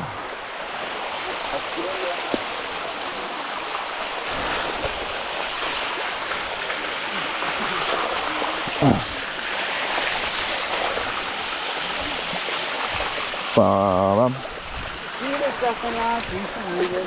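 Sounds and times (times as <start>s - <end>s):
water rushing over rock: 0.0s - 17.0s.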